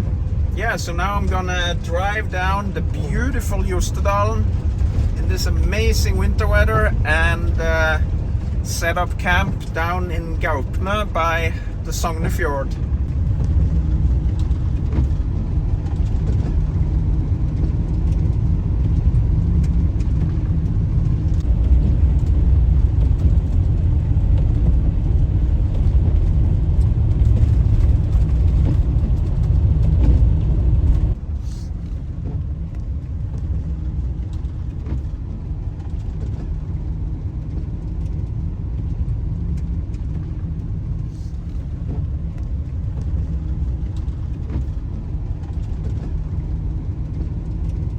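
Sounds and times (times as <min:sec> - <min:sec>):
van engine and road noise: 0:00.0 - 0:47.9.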